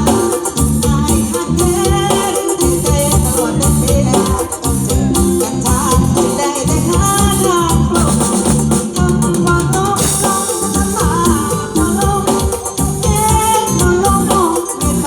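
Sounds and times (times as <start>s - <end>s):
loud live band music: 0.0s - 15.0s.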